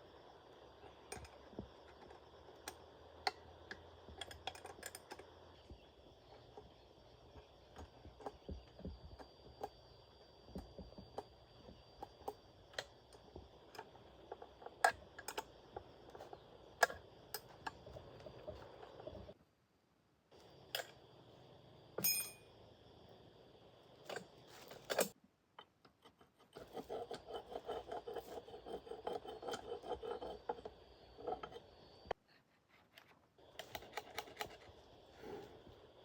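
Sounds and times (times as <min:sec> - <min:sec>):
faint steady hiss: 0:00.0 - 0:26.4, 0:28.4 - 0:36.0.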